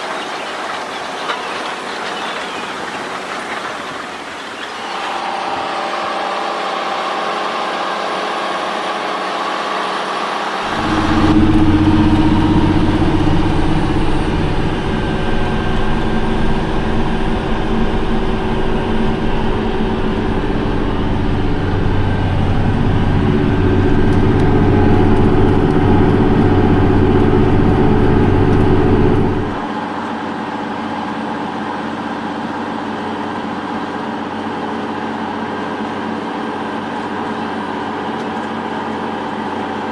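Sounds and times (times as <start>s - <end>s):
deep diesel engine running: 4.7s - 39.9s.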